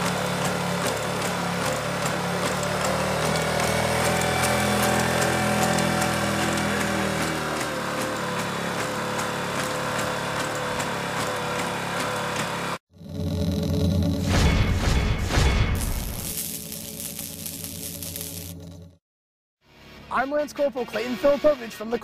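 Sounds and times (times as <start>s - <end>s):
robot engine droning: 0.0s - 19.0s.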